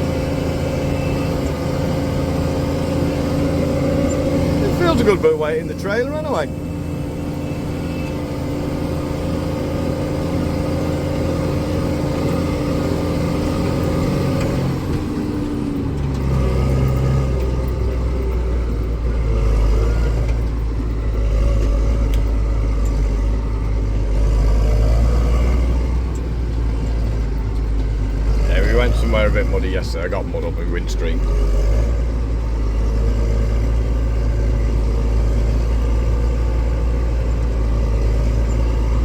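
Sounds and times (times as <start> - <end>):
tractor engine under load: 0.0 - 39.0.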